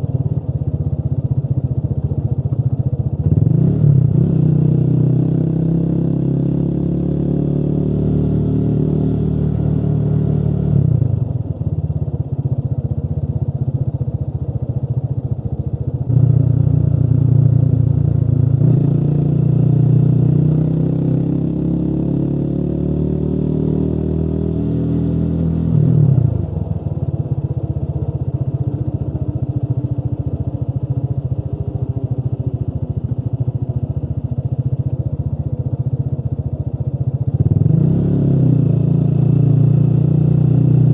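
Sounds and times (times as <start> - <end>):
motorcycle engine accelerating: 0.0 - 12.8, 13.6 - 40.9.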